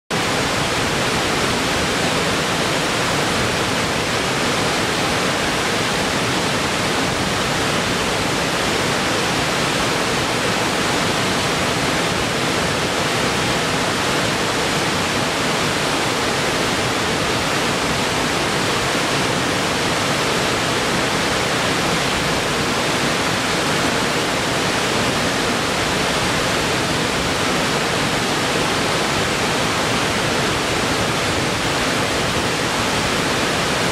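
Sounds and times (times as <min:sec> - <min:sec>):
waterfall rushing into a pool: 0:00.1 - 0:33.9.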